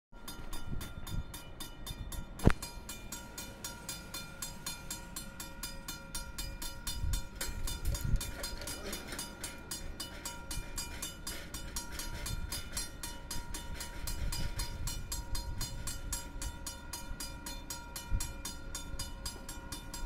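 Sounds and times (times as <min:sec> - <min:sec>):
level crossing warning bell: 0:00.2 - 0:20.0.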